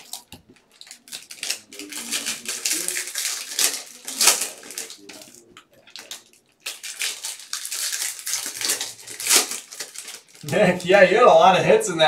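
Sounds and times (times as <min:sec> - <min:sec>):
card pack wrappers crinkling: 0:00.0 - 0:11.0.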